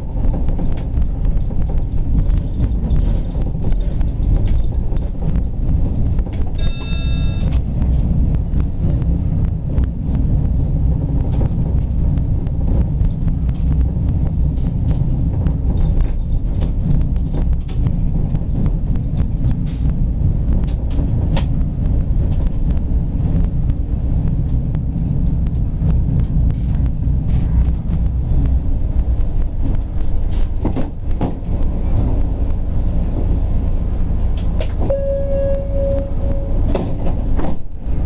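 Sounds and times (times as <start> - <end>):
tram rumbling on track: 0.0 - 38.0.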